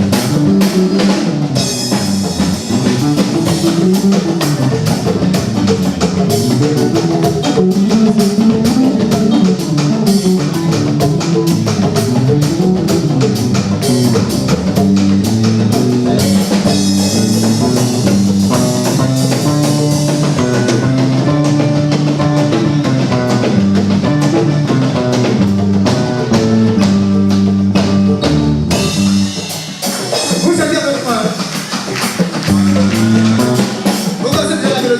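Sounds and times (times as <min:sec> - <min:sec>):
band with guitar and drums: 0:00.0 - 0:34.9.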